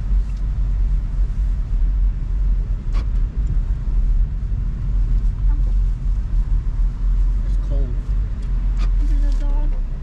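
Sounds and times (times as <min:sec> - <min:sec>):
car rumble from inside cabin: 0:00.0 - 0:10.0.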